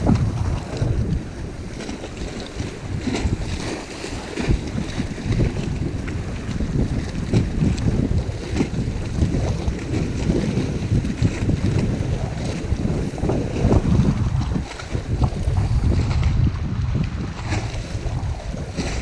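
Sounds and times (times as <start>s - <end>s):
water slapping against boat: 0.0s - 19.0s
wind buffeting microphone: 0.0s - 19.0s.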